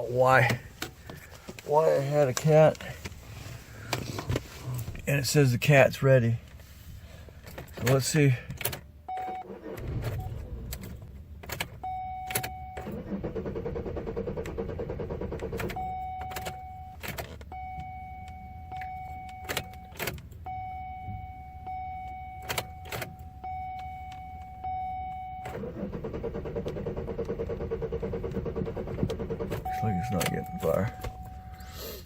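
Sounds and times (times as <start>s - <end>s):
car engine cranking: 0.0s - 5.4s, 6.4s - 32.0s.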